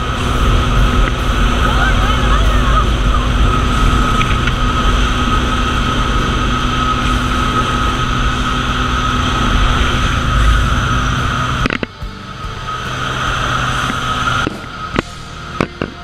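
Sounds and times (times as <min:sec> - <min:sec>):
propeller plane drone: 0:00.0 - 0:16.0.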